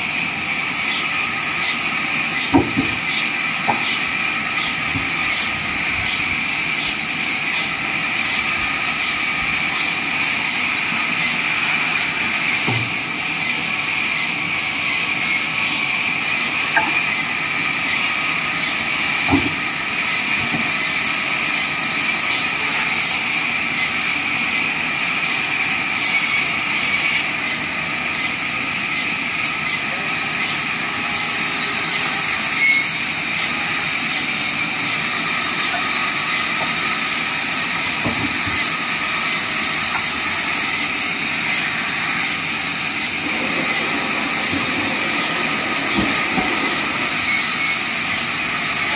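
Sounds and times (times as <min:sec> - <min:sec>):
band saw whine and hiss: 0:00.0 - 0:48.9.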